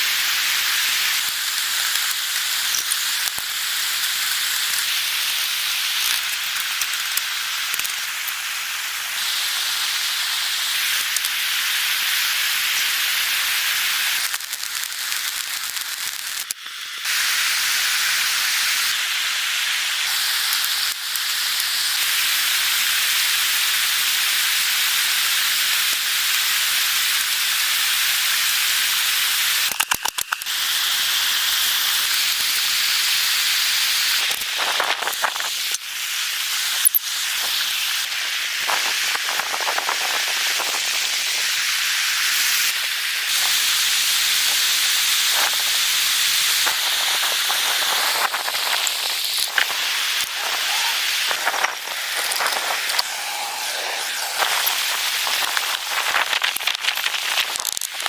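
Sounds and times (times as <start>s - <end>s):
loud hissing noise: 0.0s - 58.0s.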